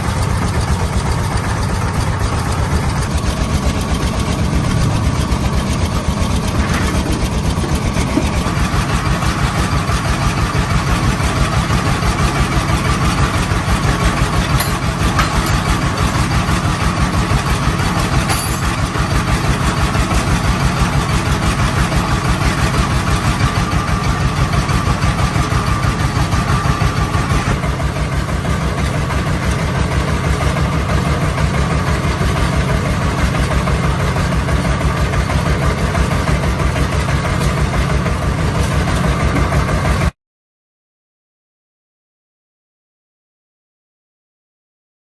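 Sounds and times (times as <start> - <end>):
tractor engine running: 0.0 - 40.1.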